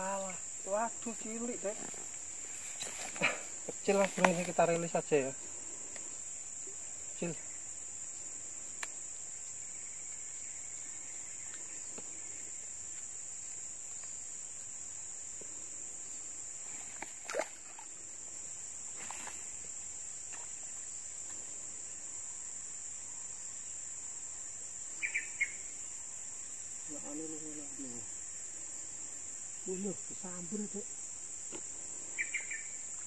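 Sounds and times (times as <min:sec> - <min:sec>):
insect chorus droning: 0:00.0 - 0:33.0.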